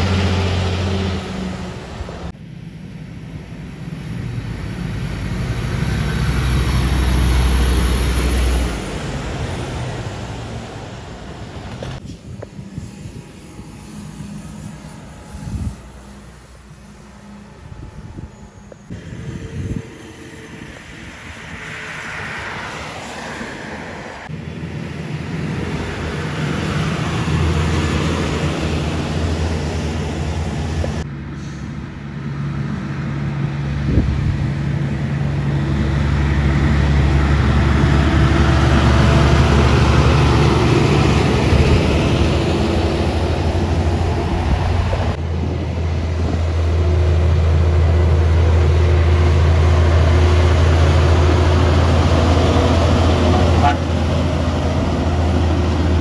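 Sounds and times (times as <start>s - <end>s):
trucks passing: 0.0s - 56.0s.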